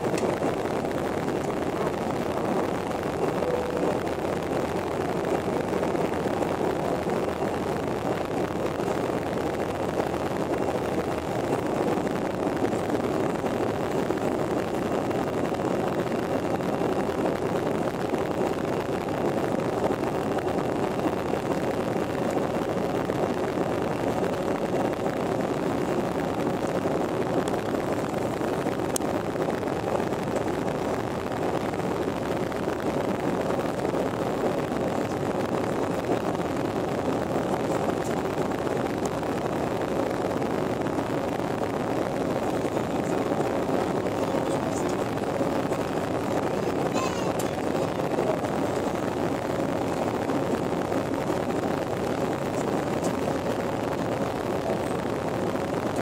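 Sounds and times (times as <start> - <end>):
faint steady hum: 0.0 - 56.0
jet engines in cabin: 0.0 - 56.0.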